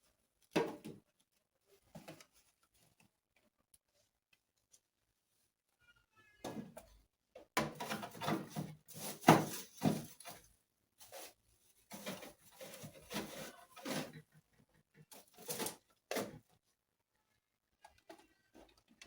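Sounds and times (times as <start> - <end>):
rustling and handling objects: 0.0 - 5.8, 6.4 - 19.0.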